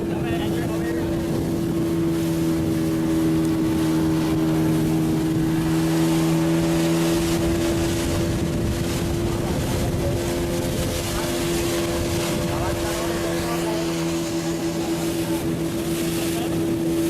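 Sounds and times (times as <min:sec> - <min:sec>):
boat engine droning: 0:00.0 - 0:17.0
water noise: 0:00.0 - 0:17.0
wind: 0:00.0 - 0:17.0.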